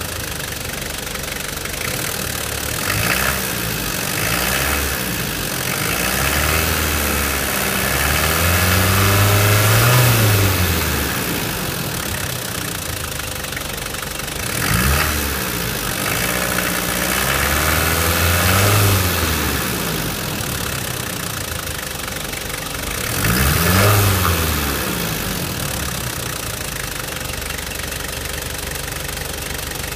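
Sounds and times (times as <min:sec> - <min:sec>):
diesel engine idling and revving: 0:00.0 - 0:29.9.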